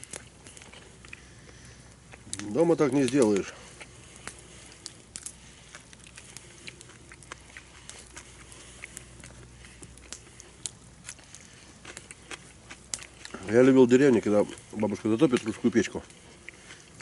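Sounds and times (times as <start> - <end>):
campfire crackling: 0.0 - 17.0
fire pops and snaps: 0.0 - 17.0.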